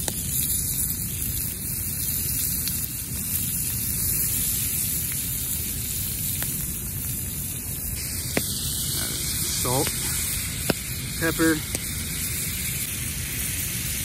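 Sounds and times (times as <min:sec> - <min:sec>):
butter sizzling in skillet: 0:00.0 - 0:14.0
fire crackles: 0:00.0 - 0:14.0.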